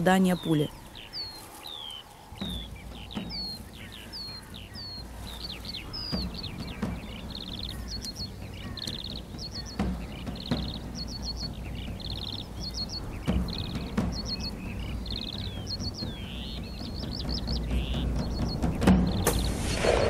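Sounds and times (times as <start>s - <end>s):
birds trilling and chirping: 0.0s - 20.0s.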